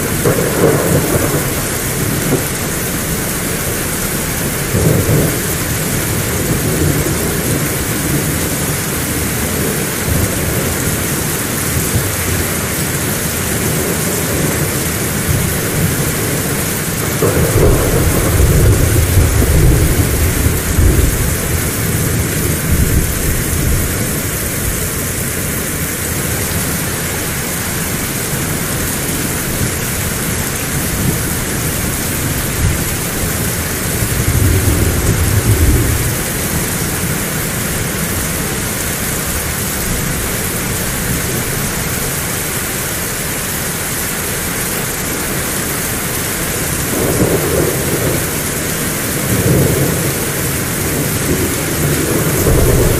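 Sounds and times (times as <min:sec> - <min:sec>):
low rumble of thunder: 0:00.0 - 0:26.8, 0:27.6 - 0:42.0, 0:46.5 - 0:52.9
heavy rain falling: 0:00.0 - 0:52.9.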